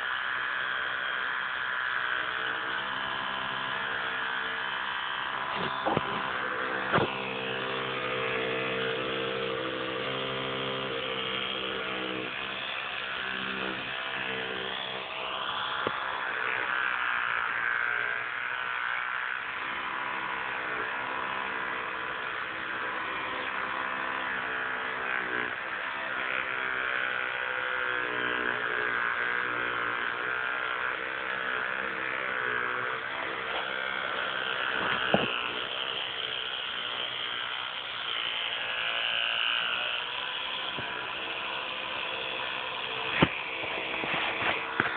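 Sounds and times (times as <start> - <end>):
electric toothbrush buzzing: 0.0 - 44.9.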